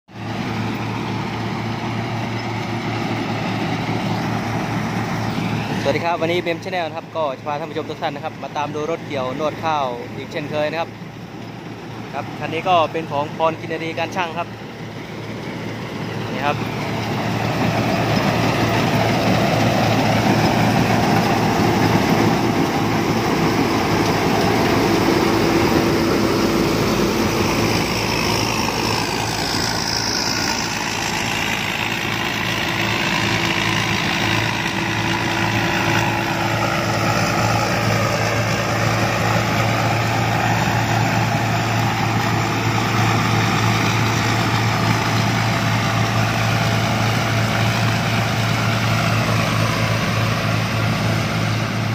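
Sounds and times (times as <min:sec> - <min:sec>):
combine harvester running: 0:00.1 - 0:51.9.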